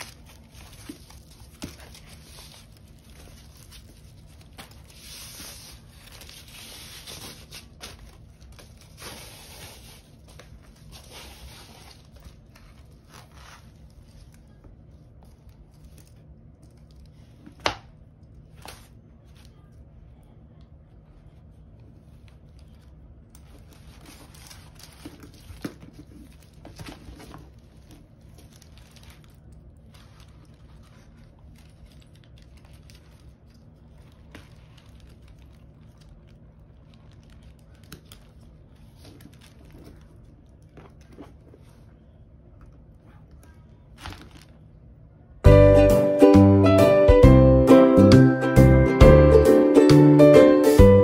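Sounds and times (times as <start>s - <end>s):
paper and plastic rustling: 0.0s - 17.7s, 18.3s - 19.8s, 21.0s - 44.8s.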